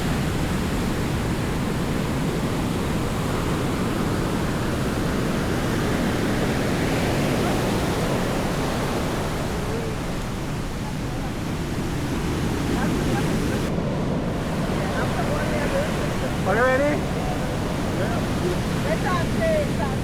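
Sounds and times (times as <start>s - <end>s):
sea surf: 0.0s - 20.0s
wind: 0.0s - 20.0s.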